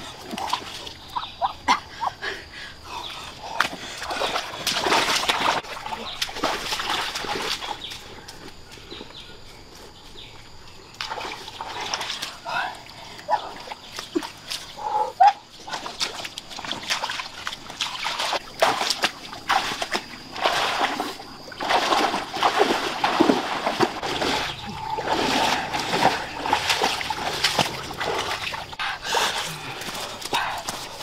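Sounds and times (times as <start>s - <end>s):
person wading through muddy water: 0.0s - 31.0s.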